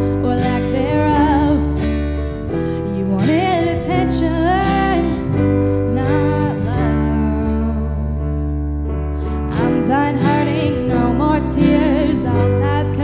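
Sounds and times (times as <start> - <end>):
woman singing slow song: 0.0 - 8.6, 9.5 - 13.0
acoustic guitar strumming: 0.0 - 13.0.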